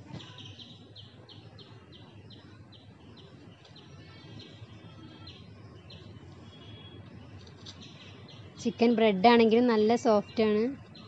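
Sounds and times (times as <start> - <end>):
bird chirping: 0.0 - 11.0
bird trill: 0.2 - 9.1.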